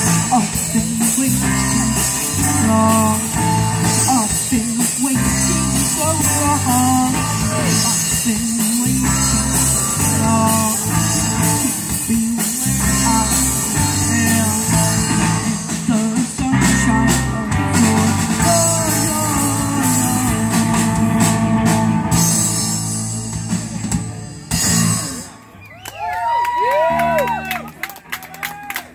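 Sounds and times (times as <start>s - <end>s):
person singing: 0.0s - 23.3s
electric guitars: 0.0s - 25.4s
drum kit: 0.0s - 25.5s
electric bass: 0.0s - 25.5s.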